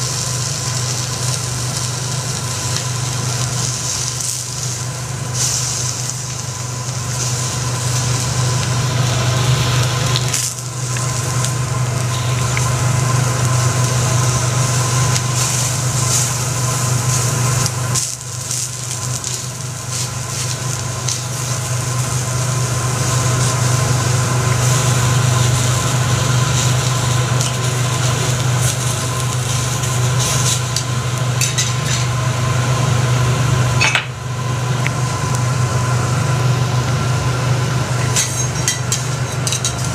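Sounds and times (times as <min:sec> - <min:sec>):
food sizzling on a griddle: 0:00.0 - 0:39.9
low hum: 0:01.4 - 0:39.9.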